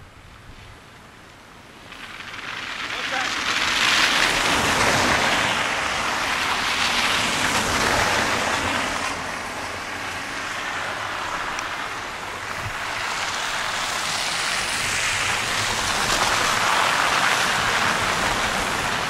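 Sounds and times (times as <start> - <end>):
tyres hissing through slush: 1.9 - 19.0.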